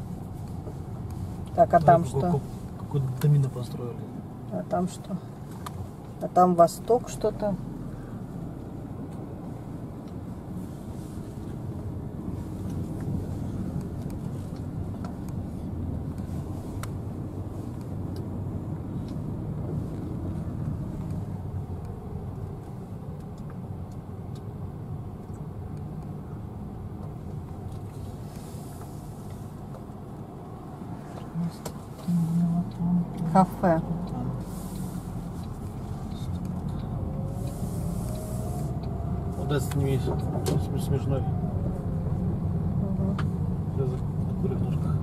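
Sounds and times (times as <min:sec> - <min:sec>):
car engine and tyre noise: 0:00.0 - 0:45.0.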